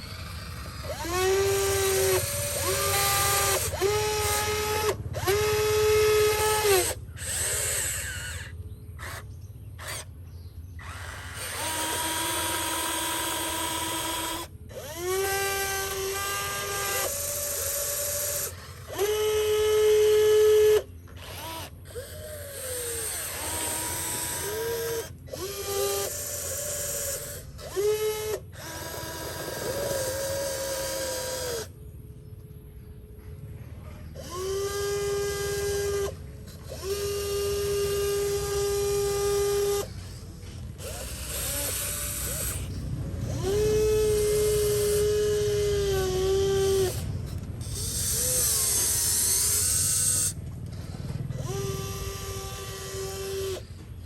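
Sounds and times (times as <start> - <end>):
small electric motors whining: 0.0 - 32.5, 33.3 - 54.0.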